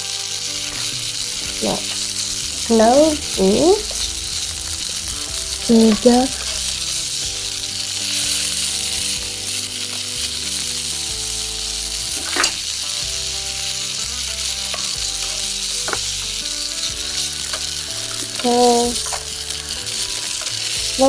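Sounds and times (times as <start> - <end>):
toy stove frying sizzle: 0.0 - 21.0.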